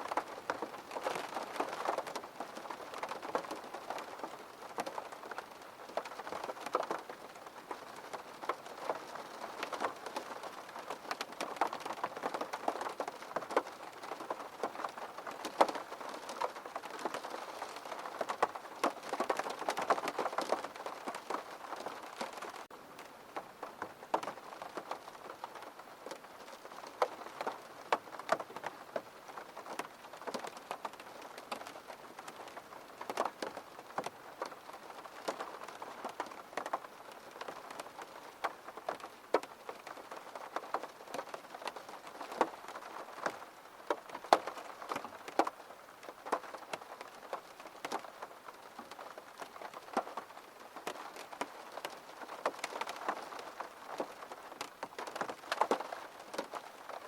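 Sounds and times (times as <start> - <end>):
raindrops ticking on hard surface: 0.0 - 57.0.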